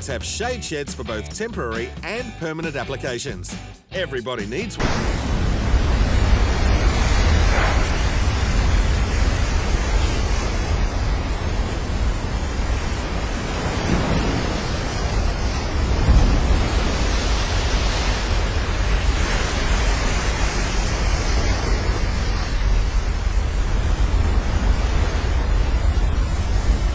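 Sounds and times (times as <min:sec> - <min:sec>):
ocean surf: 0:04.8 - 0:26.9
wind rumbling on microphone: 0:05.0 - 0:26.9.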